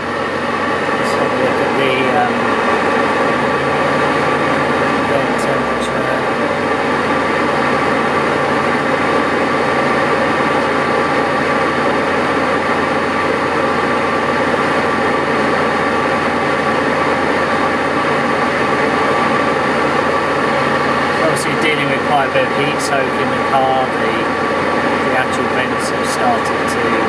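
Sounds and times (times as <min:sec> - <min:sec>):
air conditioning blower rushing air: 0:00.0 - 0:27.0
blower whine: 0:00.0 - 0:27.0.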